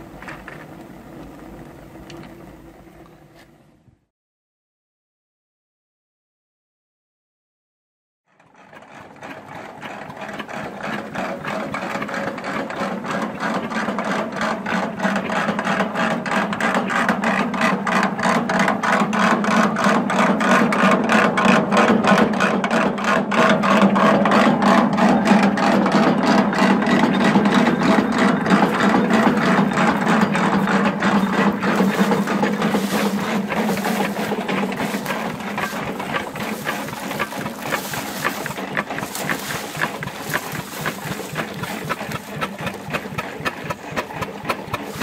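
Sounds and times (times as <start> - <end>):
feed grinder mechanical clatter: 8.3 - 45.0.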